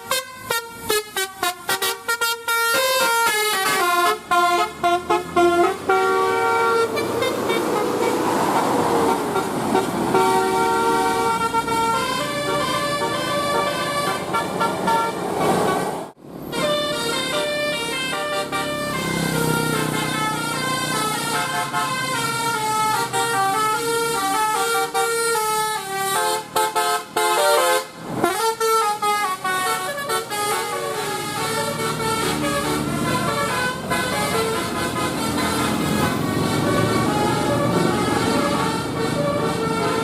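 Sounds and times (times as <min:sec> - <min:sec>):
bus engine noise: 0:00.0 - 0:40.0
multi-tone bus horns melody: 0:00.0 - 0:40.0.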